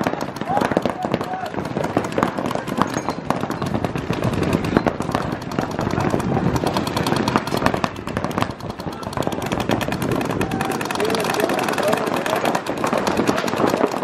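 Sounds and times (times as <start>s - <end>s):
paintball markers firing rapidly: 0.0s - 14.0s.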